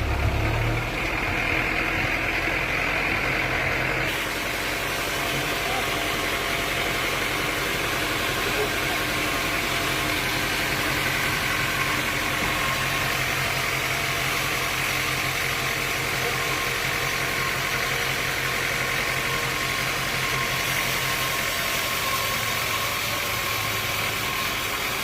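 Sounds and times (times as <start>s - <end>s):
sawmill machinery humming: 0.0s - 25.0s.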